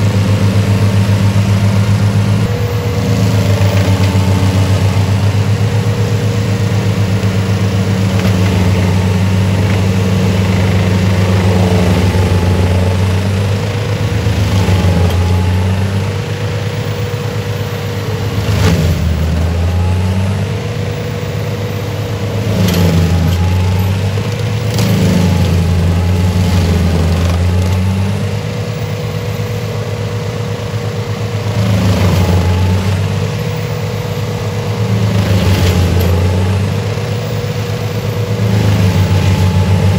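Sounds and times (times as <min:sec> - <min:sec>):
tractor diesel engine running hard: 0:00.0 - 0:39.9.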